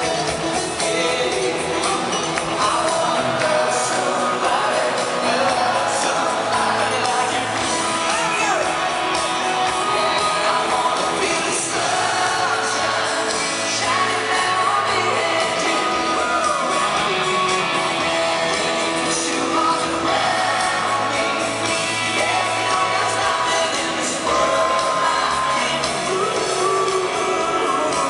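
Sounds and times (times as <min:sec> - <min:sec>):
electric guitar: 0:00.0 - 0:28.0
live country pop band: 0:00.0 - 0:28.0
man singing lead vocal: 0:00.0 - 0:28.0.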